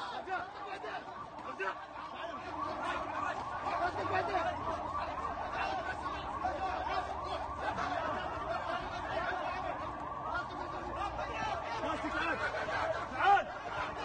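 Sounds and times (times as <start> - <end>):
crowd shouting: 0.0 - 14.0.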